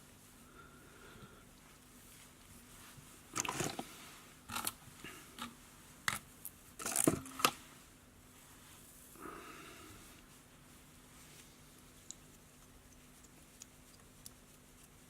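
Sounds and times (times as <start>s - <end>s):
soft rustle: 0.0s - 6.8s, 7.5s - 15.0s.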